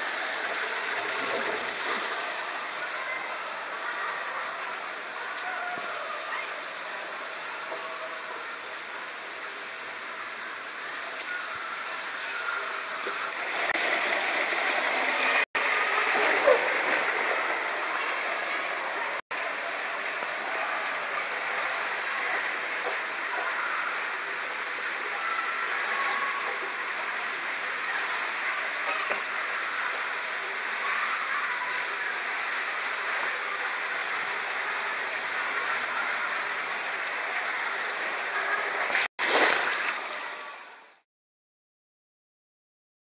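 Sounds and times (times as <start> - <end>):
water rushing through slide tube: 0.0 - 41.0.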